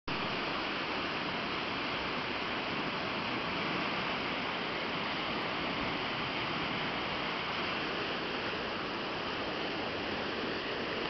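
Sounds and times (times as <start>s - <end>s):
fast water rushing: 0.1s - 11.0s.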